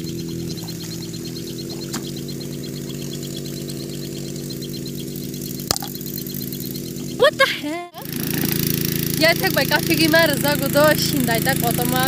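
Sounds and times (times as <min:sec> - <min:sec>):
engine humming: 0:00.0 - 0:12.0
rapid high chirping: 0:00.0 - 0:12.0.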